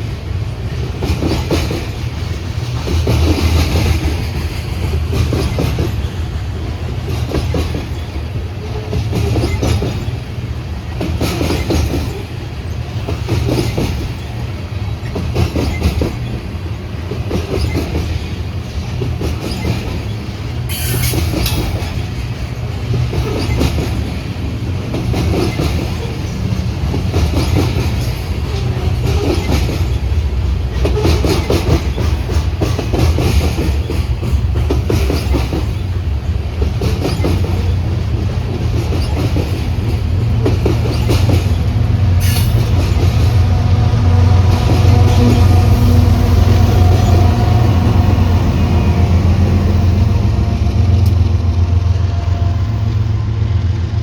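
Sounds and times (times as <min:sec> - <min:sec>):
train wheels clacking over rail joints: 0:00.0 - 0:51.7
heavy train rumble: 0:00.0 - 0:54.0.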